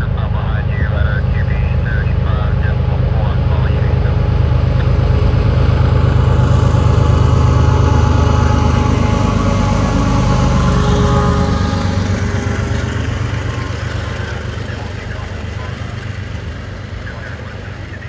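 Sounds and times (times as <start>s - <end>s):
diesel locomotives engine rumble: 0.0s - 18.0s.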